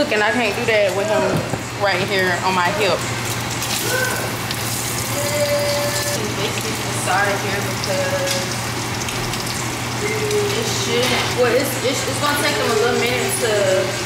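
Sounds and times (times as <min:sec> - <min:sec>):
bacon sizzling in a skillet: 0:00.6 - 0:14.0.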